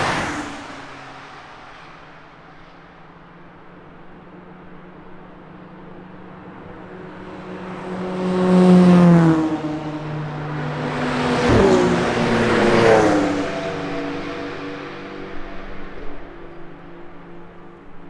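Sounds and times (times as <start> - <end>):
cars driving past at speed: 0.0 - 18.0.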